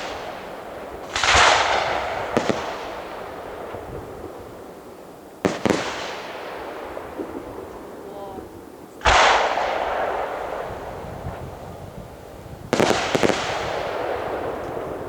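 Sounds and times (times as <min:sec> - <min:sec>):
fireworks bangs: 0:00.0 - 0:15.0
fireworks cracks: 0:00.0 - 0:15.0
rolling echo: 0:00.0 - 0:15.0.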